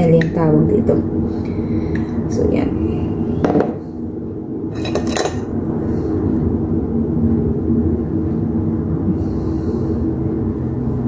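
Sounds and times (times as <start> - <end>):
machinery rumbling: 0.0 - 11.0.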